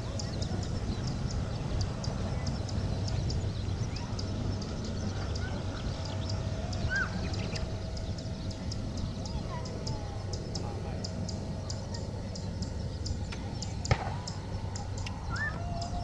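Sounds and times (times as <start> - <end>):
bird chirps: 0.0 - 16.0
jet engines rumbling: 0.0 - 16.0.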